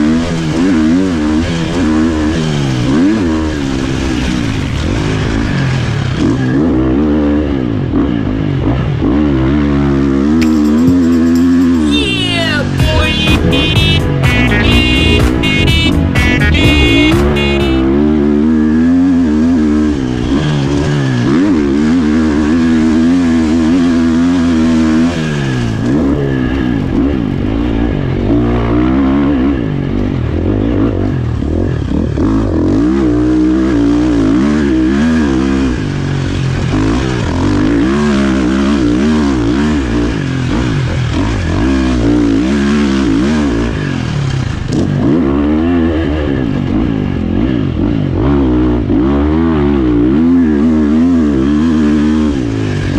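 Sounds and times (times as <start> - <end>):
motocross bike engine revving: 0.0 - 12.0, 12.6 - 52.9.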